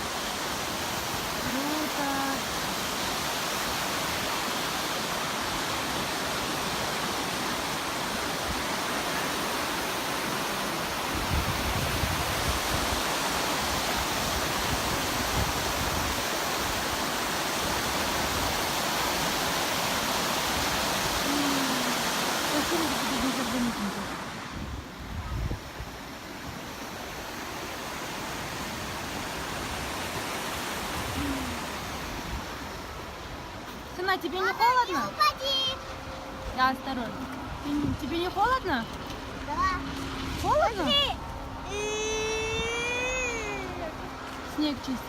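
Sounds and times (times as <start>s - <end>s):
river water rushing: 0.0s - 45.0s.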